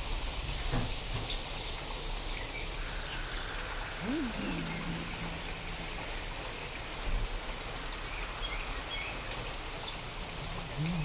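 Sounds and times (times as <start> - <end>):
rain hissing: 1.9 - 11.0.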